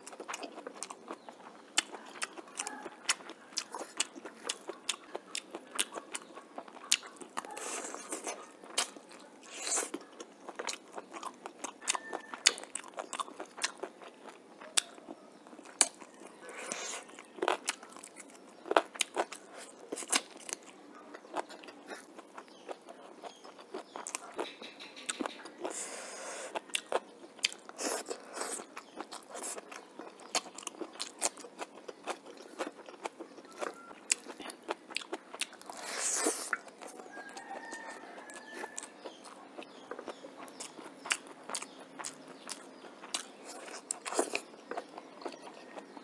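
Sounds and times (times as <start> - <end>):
wet chewing with crunchy clicks: 0.0 - 46.0.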